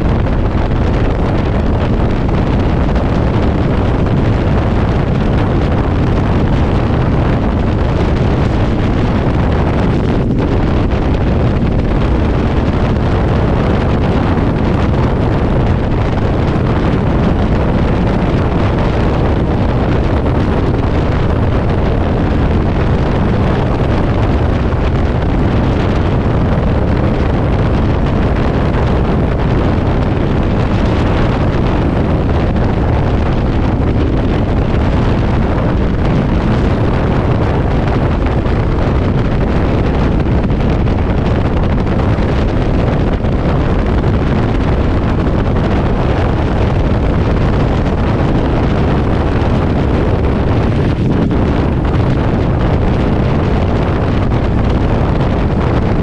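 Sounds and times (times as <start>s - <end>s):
strong wind on microphone: 0.0s - 56.0s.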